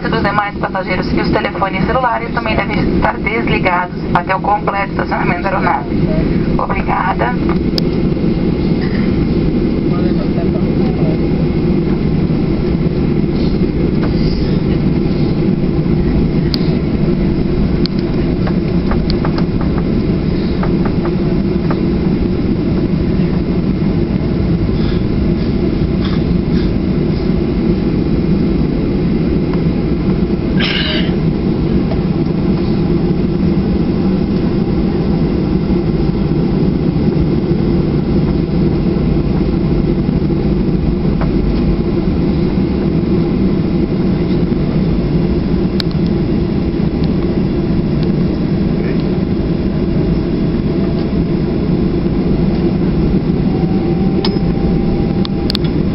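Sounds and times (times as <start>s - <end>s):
jet cabin engine rumble: 0.0s - 55.9s.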